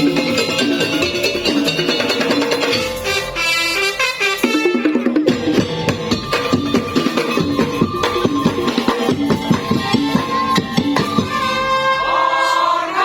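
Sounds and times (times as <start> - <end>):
drums and percussion ensemble: 0.0 - 13.0.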